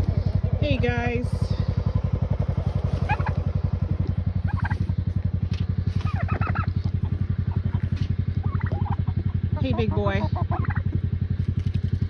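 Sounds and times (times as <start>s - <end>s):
poultry calling: 0.0s - 11.7s
idling engine throb: 0.0s - 12.0s.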